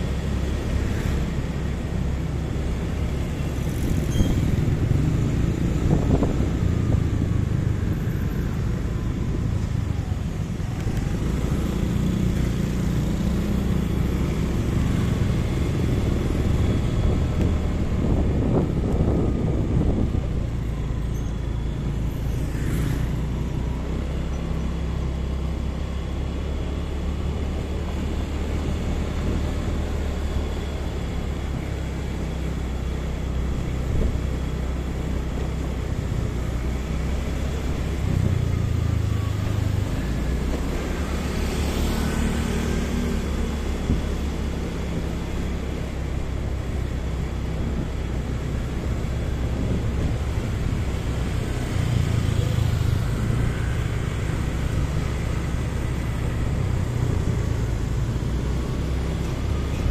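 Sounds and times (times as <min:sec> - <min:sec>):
motorcycle engine and road rumble: 0:00.0 - 0:59.9
passing traffic: 0:00.0 - 0:59.9.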